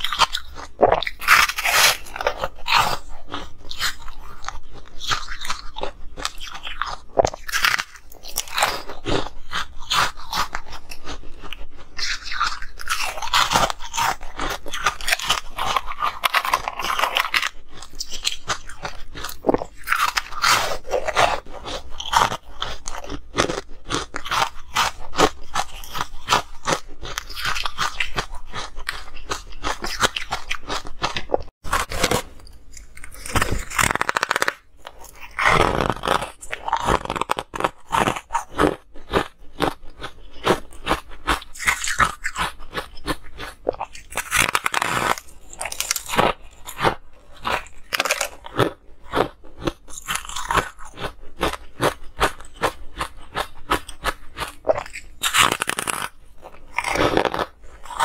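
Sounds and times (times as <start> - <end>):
ice crunching being chewed: 0.0 - 58.0.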